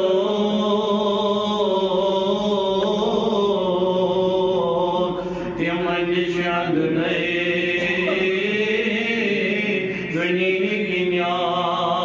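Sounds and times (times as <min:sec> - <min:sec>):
person chanting unaccompanied: 0:00.0 - 0:12.0.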